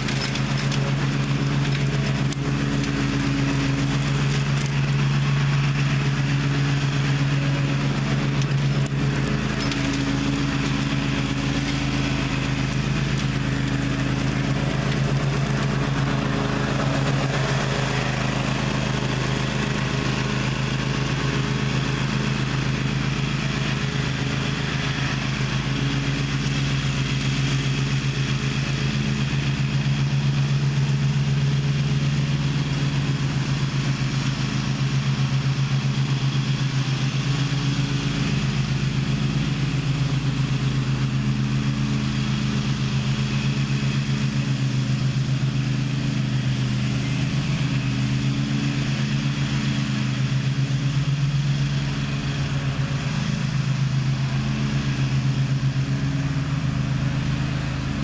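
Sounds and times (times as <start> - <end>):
mower engine droning: 0.0 - 58.0.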